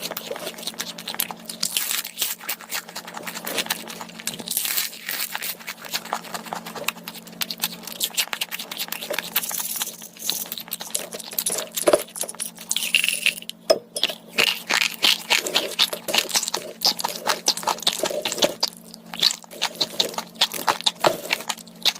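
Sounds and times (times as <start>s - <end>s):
crunching food being chewed: 0.0s - 21.9s.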